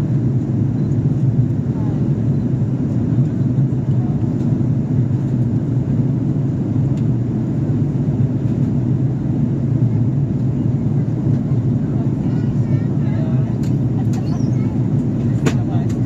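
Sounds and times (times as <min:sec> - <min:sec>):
airliner engines rumbling: 0:00.0 - 0:16.0.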